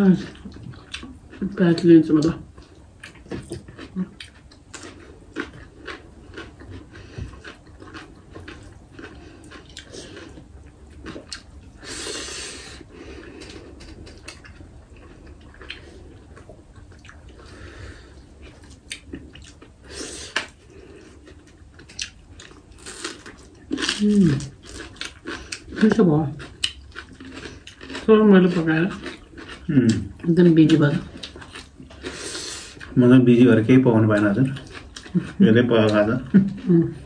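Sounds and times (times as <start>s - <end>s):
chewing: 0.1s - 37.0s.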